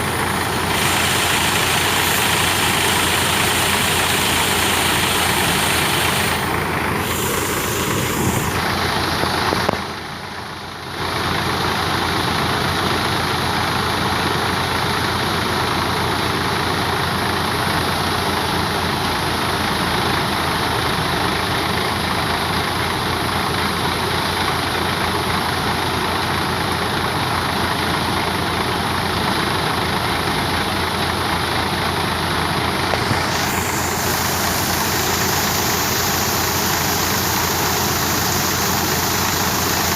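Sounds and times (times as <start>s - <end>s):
tractor engine hum: 0.0s - 39.9s
wheat thresher running: 0.0s - 39.9s.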